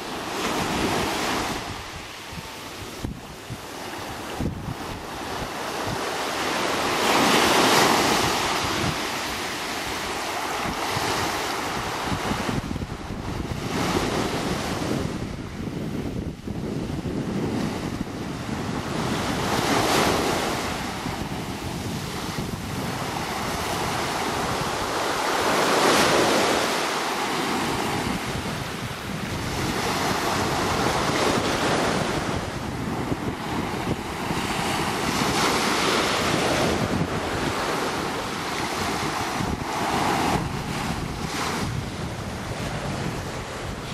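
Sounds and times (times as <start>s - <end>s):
waves on pebble beach: 0.0s - 15.4s, 17.4s - 43.9s
wind buffeting microphone: 0.0s - 43.9s.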